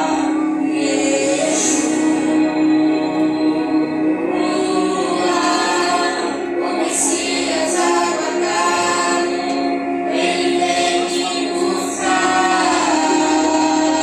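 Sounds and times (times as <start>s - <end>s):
vocal group singing worship song: 0.0s - 14.0s.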